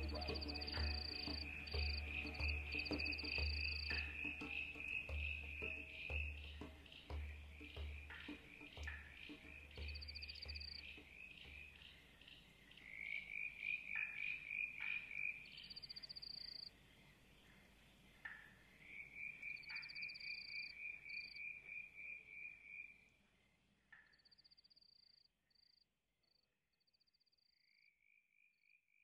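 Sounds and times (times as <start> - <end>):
frogs croaking chorus: 0.0 - 25.8, 27.4 - 29.0.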